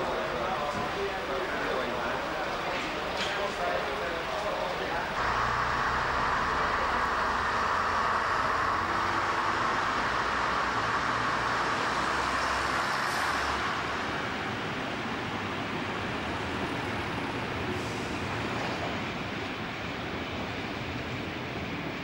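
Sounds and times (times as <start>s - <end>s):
diesel train engine drone: 0.0s - 22.0s.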